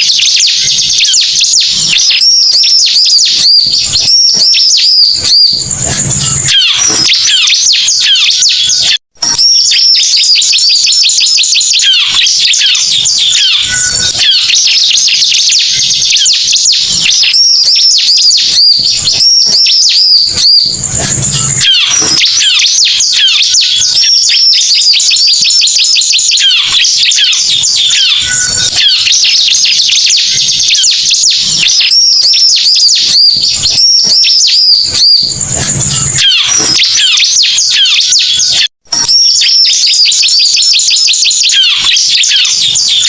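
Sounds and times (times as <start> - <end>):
bird chirping and trilling: 0.0 - 43.0.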